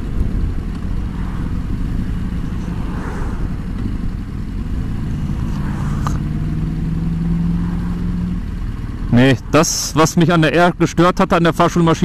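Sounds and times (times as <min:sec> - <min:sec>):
motorcycle engine cruising: 0:00.0 - 0:12.0
road and wind rumble: 0:00.0 - 0:12.0.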